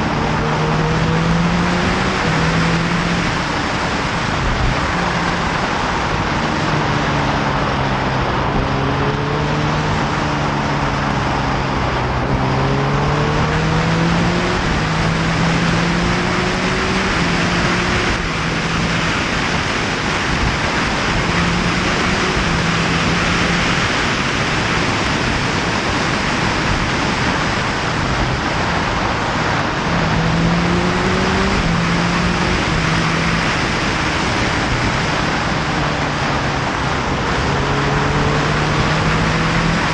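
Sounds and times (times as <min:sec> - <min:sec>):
motorcycle engine: 0:00.0 - 0:39.9
wind rushing over microphone: 0:00.0 - 0:39.9.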